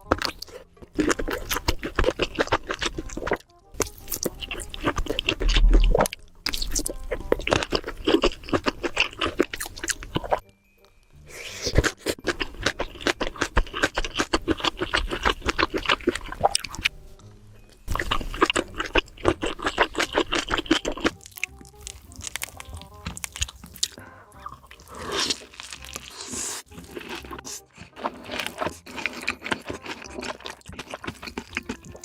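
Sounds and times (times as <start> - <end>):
chewing sausages: 0.0 - 10.4, 11.3 - 32.0.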